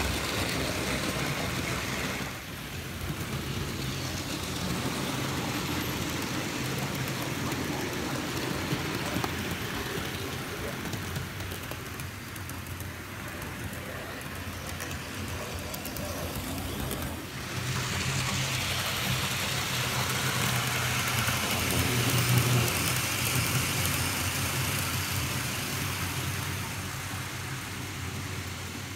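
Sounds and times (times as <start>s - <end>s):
model train hum: 0.0s - 28.9s
model train wheels rumbling on rail: 0.0s - 28.9s.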